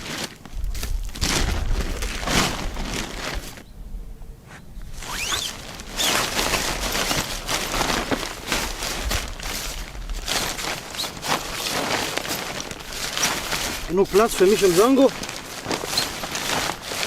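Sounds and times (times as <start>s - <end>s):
rustling and crunching: 0.0s - 3.7s, 4.5s - 17.0s.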